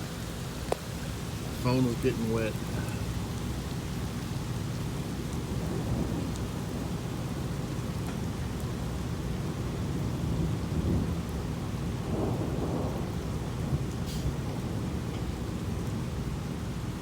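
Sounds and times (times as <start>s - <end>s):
steady rain: 0.0s - 17.0s
low rolling thunder: 1.0s - 17.0s.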